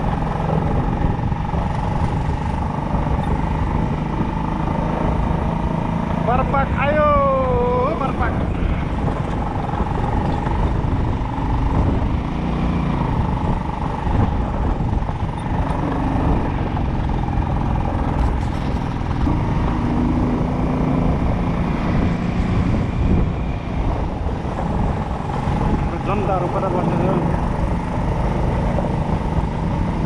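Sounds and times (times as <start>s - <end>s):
road and wind noise: 0.0s - 30.0s
vehicle engine running: 0.0s - 30.0s.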